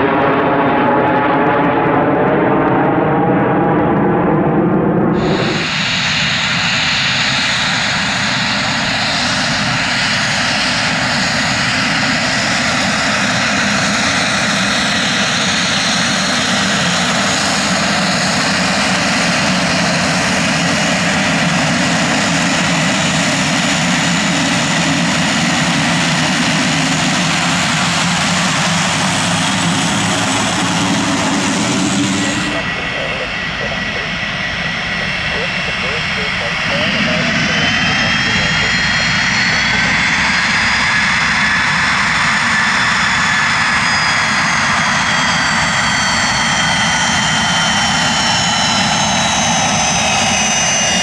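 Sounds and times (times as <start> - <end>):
high turbine whine: 0.0 - 51.0
low propeller drone: 0.0 - 51.0
turboprop engine running: 0.0 - 51.0.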